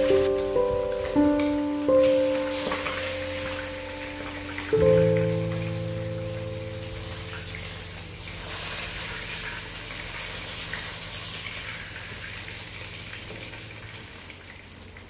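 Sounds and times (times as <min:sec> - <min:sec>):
oil sizzling in a wok: 0:00.0 - 0:15.0.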